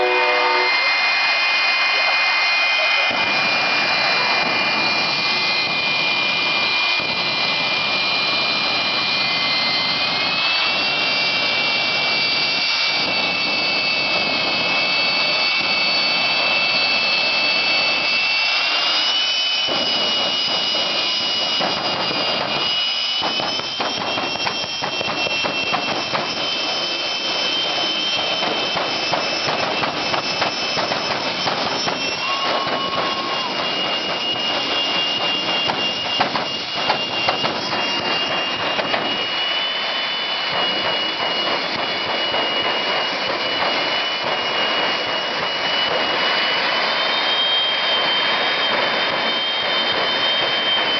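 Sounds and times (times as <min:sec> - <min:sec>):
jet turbine engine roaring: 0:00.0 - 0:50.9.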